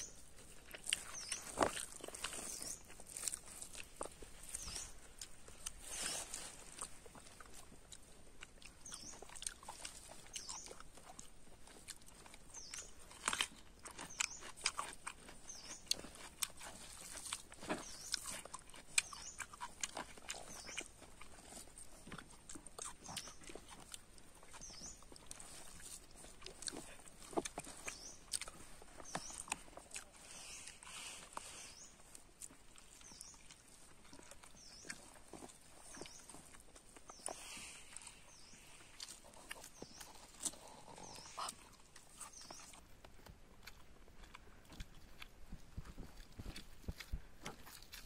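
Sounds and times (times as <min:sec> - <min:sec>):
person chewing and lip smacking: 0:00.0 - 0:48.0.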